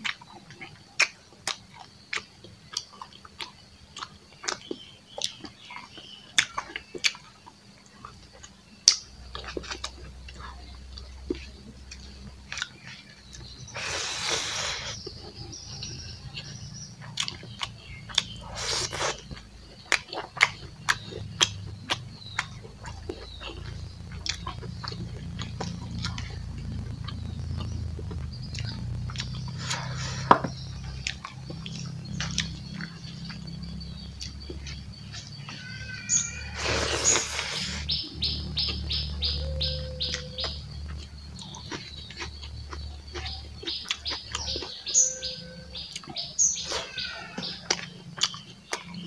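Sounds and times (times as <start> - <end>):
man chewing with mouth clicks: 0.0 - 35.6, 36.2 - 49.0.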